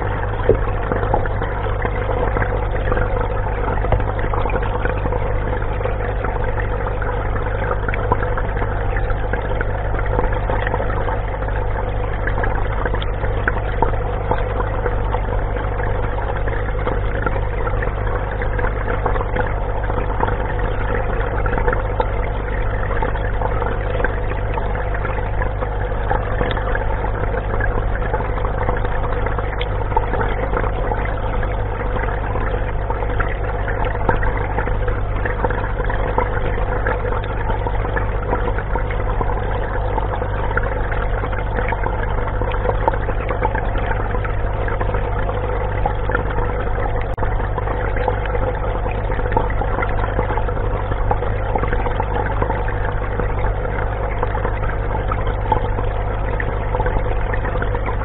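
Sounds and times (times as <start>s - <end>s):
machine hum with steady tone: 0.0s - 58.0s.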